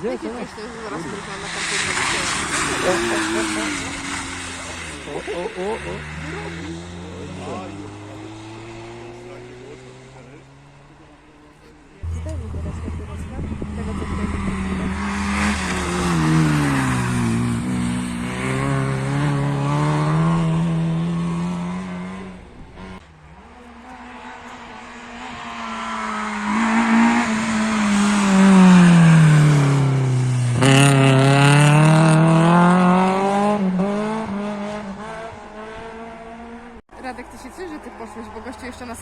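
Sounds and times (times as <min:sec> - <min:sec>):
rally car engines passing: 0:00.0 - 0:39.0.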